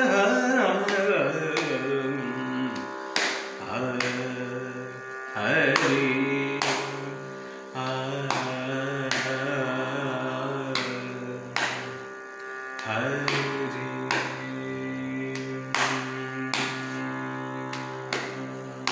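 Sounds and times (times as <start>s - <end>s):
steady pitched drone: 0.0s - 18.9s.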